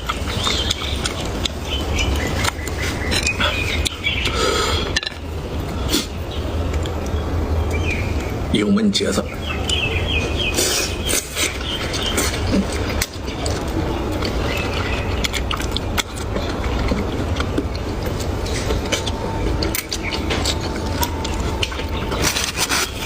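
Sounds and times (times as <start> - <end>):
people chewing: 0.0 - 8.4, 9.4 - 23.0
steady low hum: 0.0 - 23.0.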